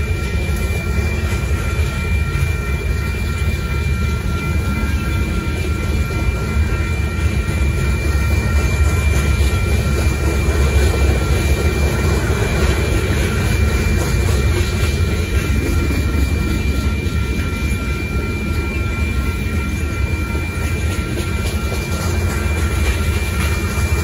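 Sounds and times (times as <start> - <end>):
train cars clattering: 0.0 - 24.0
train wheels rumbling on rails: 0.0 - 24.0.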